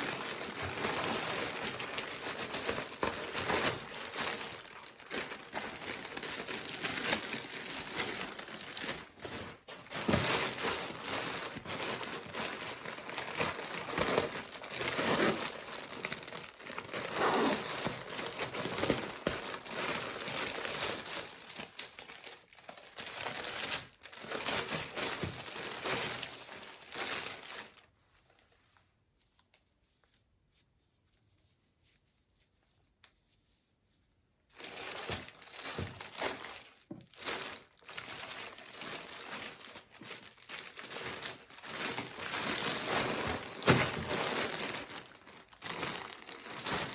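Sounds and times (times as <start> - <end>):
packaging crinkling and rustling: 0.0 - 28.6, 34.5 - 46.9.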